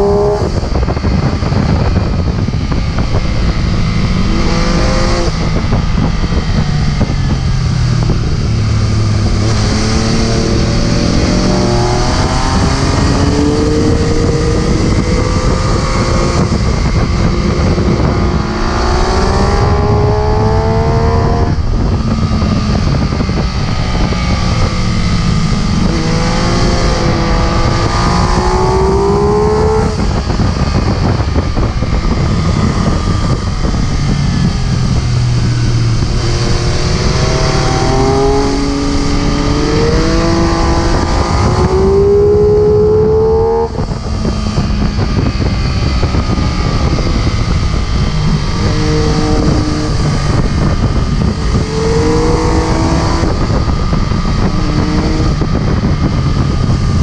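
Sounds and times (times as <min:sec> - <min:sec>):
motorcycle engine accelerating: 0:00.0 - 0:57.0
wind and road rush: 0:00.0 - 0:57.0.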